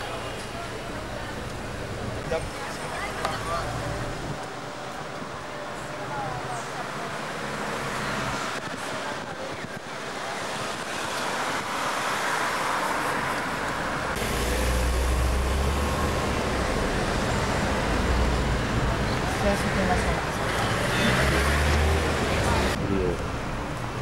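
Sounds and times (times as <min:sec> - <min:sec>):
cars going by: 0:00.0 - 0:24.0.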